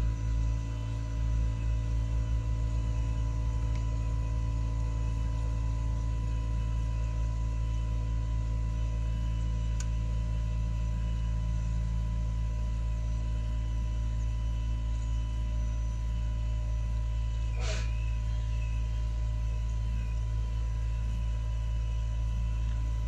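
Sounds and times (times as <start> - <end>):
heat pump humming: 0.0 - 23.0.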